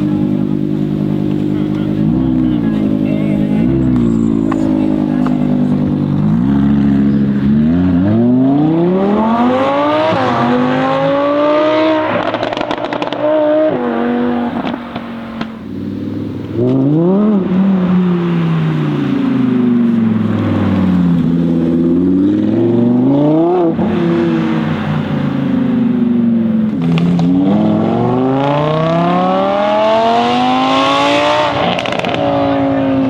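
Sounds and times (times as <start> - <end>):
car engine accelerating: 0.0 - 33.0
exhaust crackles: 0.0 - 33.0.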